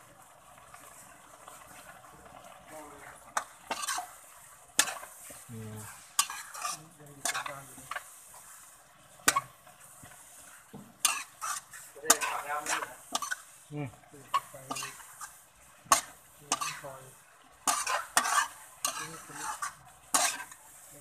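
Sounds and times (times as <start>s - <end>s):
faint frying sizzle: 0.0s - 21.0s
metal spatula scraping wok: 0.6s - 21.0s.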